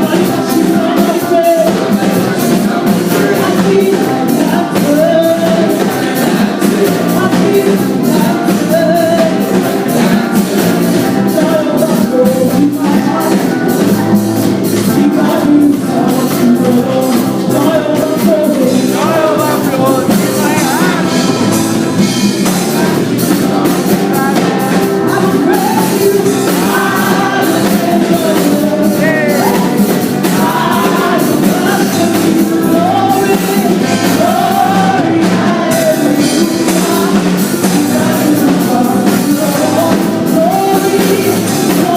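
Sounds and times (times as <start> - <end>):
full band with drums: 0.0 - 41.9
person singing: 0.0 - 41.9.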